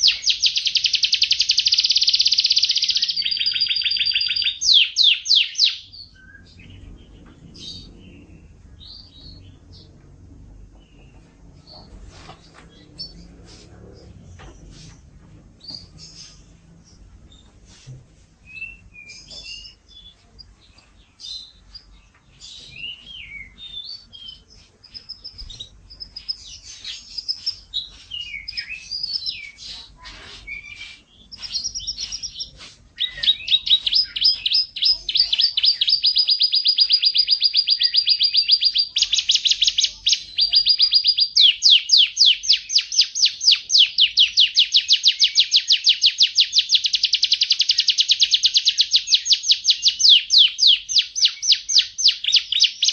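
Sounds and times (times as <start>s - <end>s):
canary singing: 0.0s - 13.4s, 15.5s - 17.6s, 18.5s - 52.9s.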